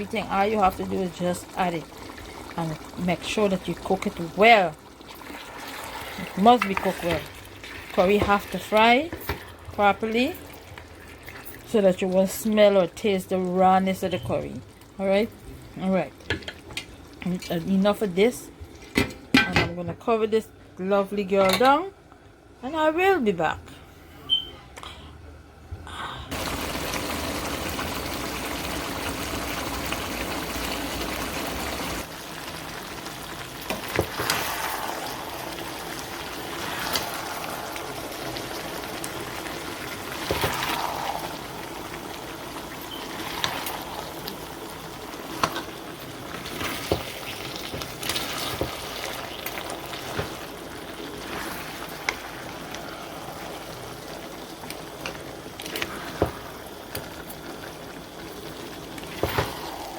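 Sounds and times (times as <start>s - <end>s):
curry sizzling and bubbling in a pot: 0.0s - 19.4s, 26.3s - 59.9s.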